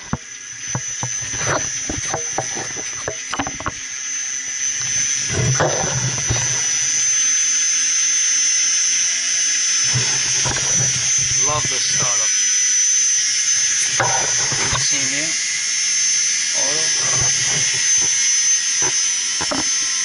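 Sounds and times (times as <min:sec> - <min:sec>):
pump motor whine and hum: 0:00.0 - 0:20.0.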